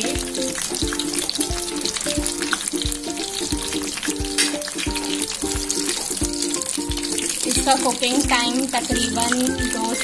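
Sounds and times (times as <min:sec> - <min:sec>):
background music with low thumps: 0:00.0 - 0:10.0
oil sizzling in a pan: 0:00.0 - 0:10.0.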